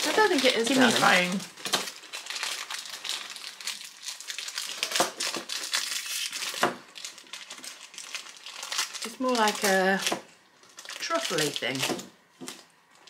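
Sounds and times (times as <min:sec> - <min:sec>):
wrapping crumpled and rustling: 0:00.0 - 0:13.0.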